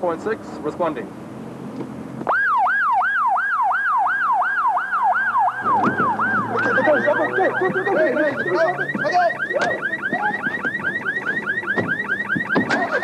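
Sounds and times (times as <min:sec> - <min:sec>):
electronic siren sweeping: 0:02.3 - 0:13.0
fast warbling siren: 0:02.3 - 0:13.0.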